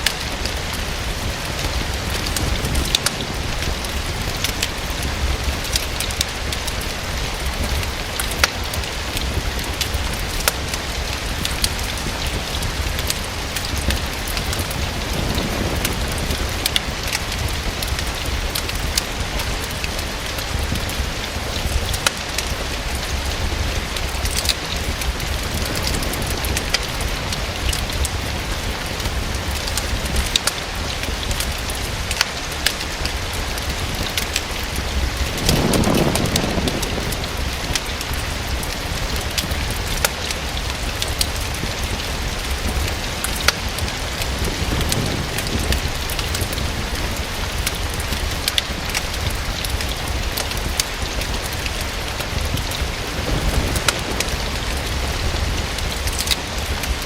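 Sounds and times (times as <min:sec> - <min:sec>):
steady rain falling: 0:00.0 - 0:57.0
wood fire crackling: 0:00.0 - 0:57.0.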